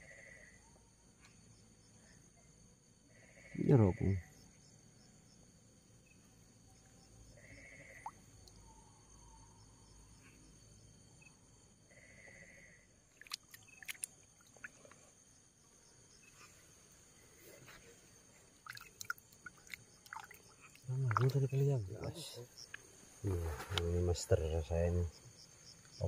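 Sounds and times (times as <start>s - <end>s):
night insects chirring: 0.0s - 26.0s.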